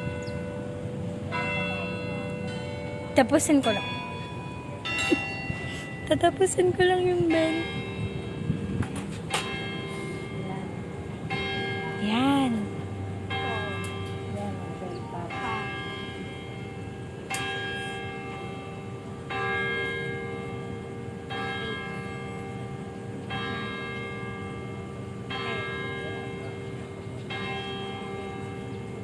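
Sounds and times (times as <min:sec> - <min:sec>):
church bell tolling: 0:00.0 - 0:29.0.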